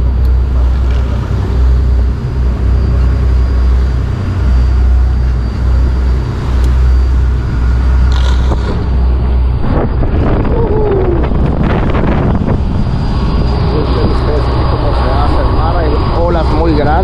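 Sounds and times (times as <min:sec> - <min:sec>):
boat engines droning: 0:00.0 - 0:17.0
wind: 0:00.0 - 0:17.0.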